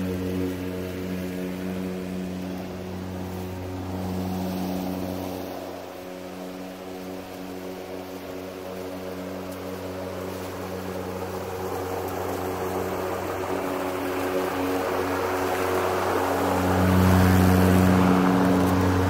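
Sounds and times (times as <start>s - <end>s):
electric lawn mower humming: 0.0s - 19.0s
grass rustling: 0.0s - 19.0s.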